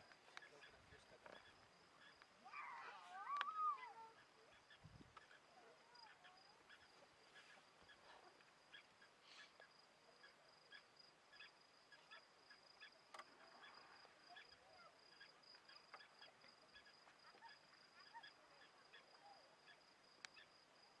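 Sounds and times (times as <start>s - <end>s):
bird chirps: 0.2s - 20.6s.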